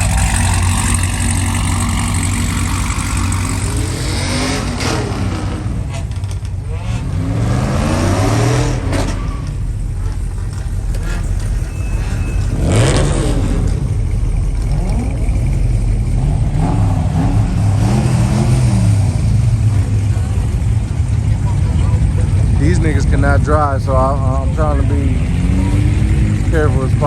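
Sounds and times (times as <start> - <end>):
car engine revving: 0.0 - 27.0
low exhaust rumble: 0.0 - 27.0.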